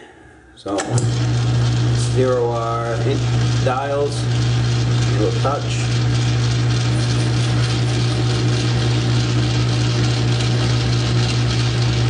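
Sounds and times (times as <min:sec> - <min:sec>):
lathe running with low hum: 0:00.7 - 0:12.0.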